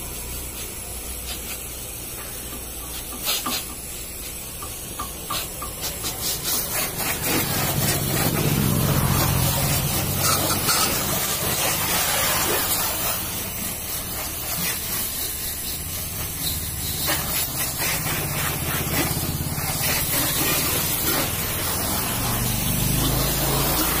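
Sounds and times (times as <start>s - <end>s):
water jet spraying car: 0.0s - 24.0s.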